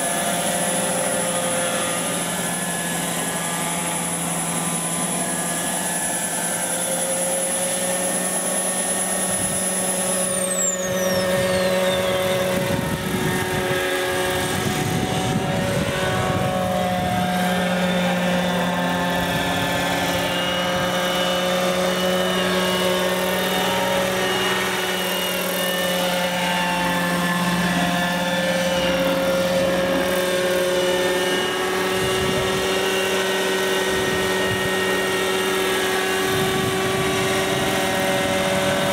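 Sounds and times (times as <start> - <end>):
high whine sliding down: 0.0 - 38.9
model helicopter engine and rotor drone: 0.0 - 38.9.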